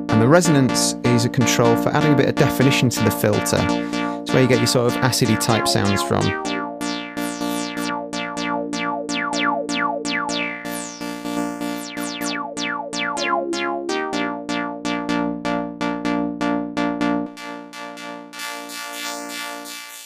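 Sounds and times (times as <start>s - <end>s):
low held synth tones: 0.0s - 19.6s
synth lead with acid squelch: 0.0s - 20.0s.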